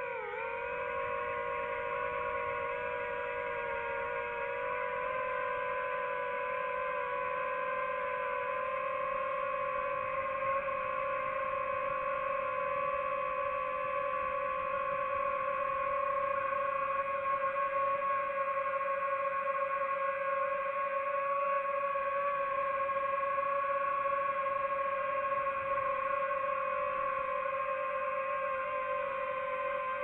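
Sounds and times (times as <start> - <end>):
drone propellers whining: 0.0 - 19.3, 20.6 - 30.0.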